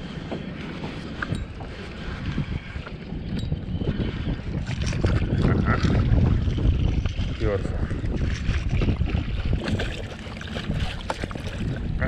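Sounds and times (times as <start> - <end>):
water splashing around kayak: 0.0 - 12.0
wind buffeting microphone: 0.0 - 12.0.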